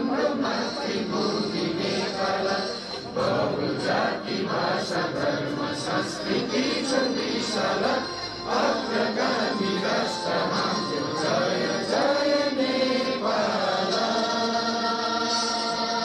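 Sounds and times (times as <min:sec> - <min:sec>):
choir singing: 0:00.0 - 0:16.0
instrumental backing: 0:00.0 - 0:16.0.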